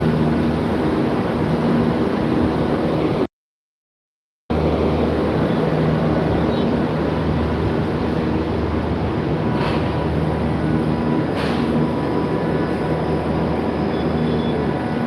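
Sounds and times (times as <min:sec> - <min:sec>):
chiller machinery humming: 0:00.0 - 0:03.3, 0:04.5 - 0:15.0.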